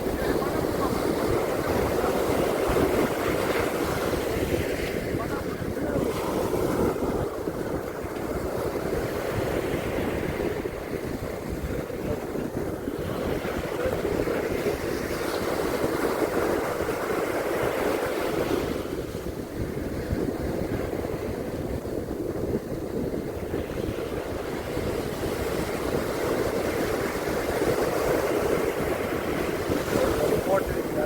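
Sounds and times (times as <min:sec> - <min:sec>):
ocean surf washing onto beach: 0:00.0 - 0:31.0
wind rumbling on microphone: 0:00.0 - 0:31.0.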